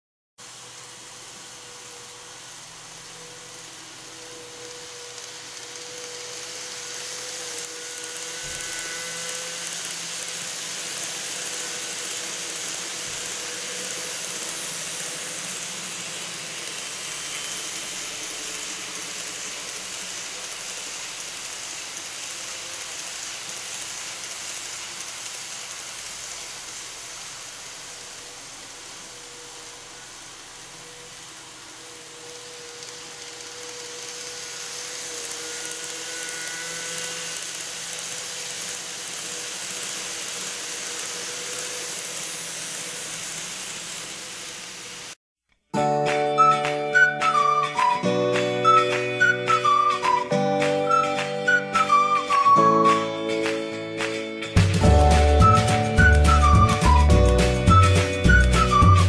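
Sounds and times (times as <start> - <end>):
model train wheels on track: 0.4 - 45.2, 46.0 - 59.0.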